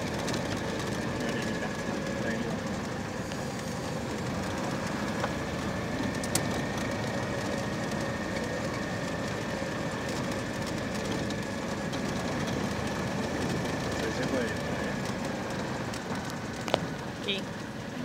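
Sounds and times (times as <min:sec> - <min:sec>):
car rolling over dirt track: 0:00.0 - 0:17.7.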